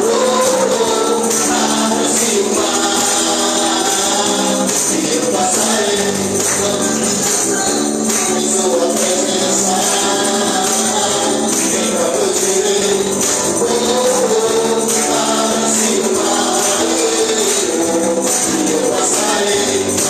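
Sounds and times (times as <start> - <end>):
jingling percussion: 0.0 - 20.0
voices singing: 0.0 - 20.0
worship band playing: 0.0 - 20.0.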